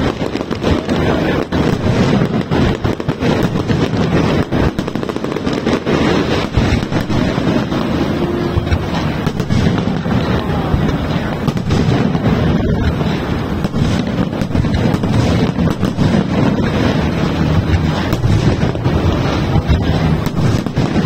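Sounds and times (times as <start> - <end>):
fireworks bangs and crackles: 0.0 - 21.0
steady rumble: 0.0 - 21.0.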